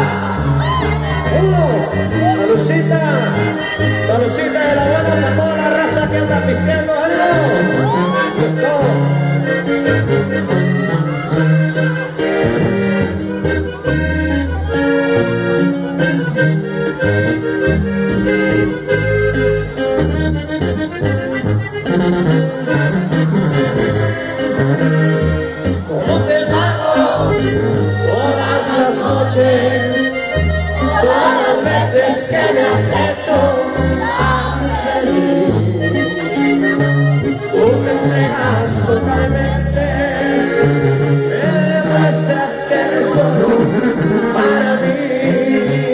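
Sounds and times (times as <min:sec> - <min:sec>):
accordion melodic runs: 0:00.0 - 0:45.9
bass line: 0:00.0 - 0:45.9.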